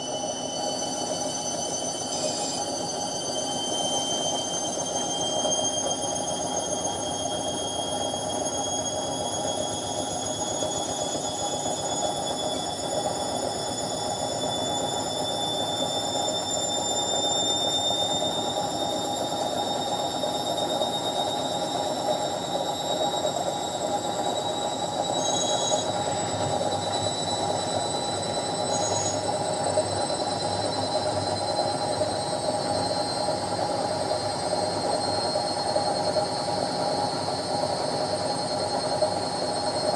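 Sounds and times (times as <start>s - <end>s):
motor whine climbing in pitch: 0.0s - 39.9s.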